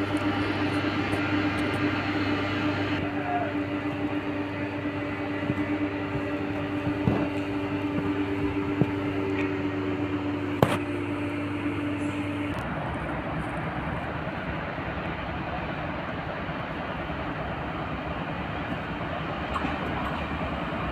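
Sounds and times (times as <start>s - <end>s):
train equipment humming: 0.0s - 20.9s.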